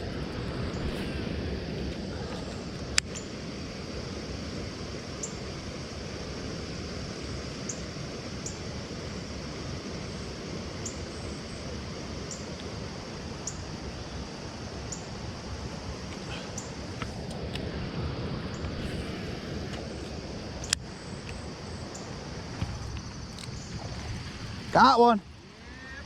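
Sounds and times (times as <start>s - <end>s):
flowing river water: 0.0s - 26.0s
wind: 0.0s - 26.0s.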